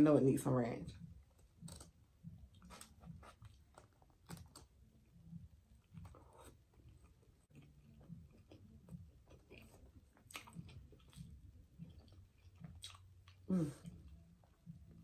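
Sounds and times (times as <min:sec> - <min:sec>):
faint chewing: 0:01.1 - 0:15.0.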